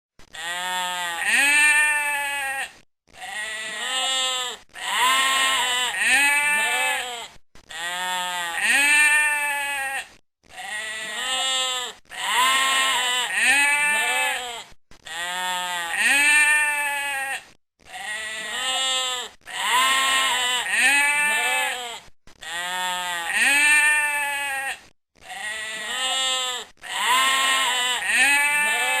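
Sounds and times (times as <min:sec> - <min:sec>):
sheep bleating: 0:00.3 - 0:29.0.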